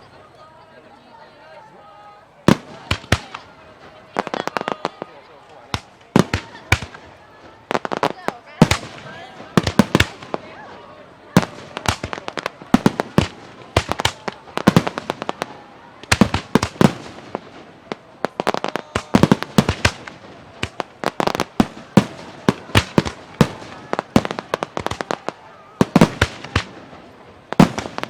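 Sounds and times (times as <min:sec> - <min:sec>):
fireworks bursting: 0:02.5 - 0:28.0.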